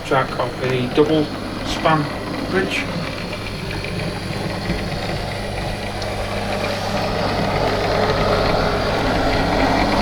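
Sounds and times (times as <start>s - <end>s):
model train motor hum: 0.0s - 10.0s
wheels rumbling on rails: 0.0s - 10.0s.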